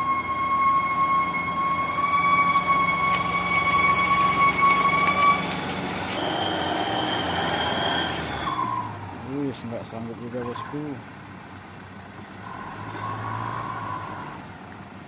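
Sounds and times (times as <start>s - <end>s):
truck engine straining: 0.0s - 15.0s.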